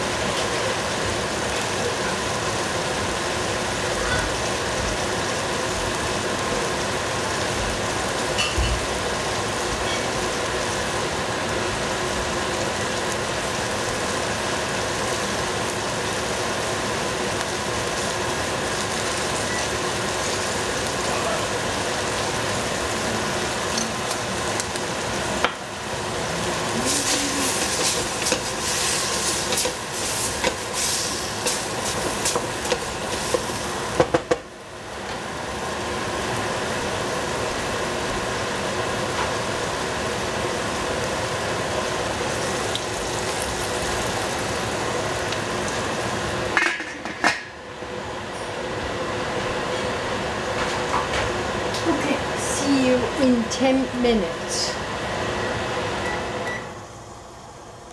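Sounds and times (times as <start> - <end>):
cauliflower sizzling in a pan: 0.0 - 57.9.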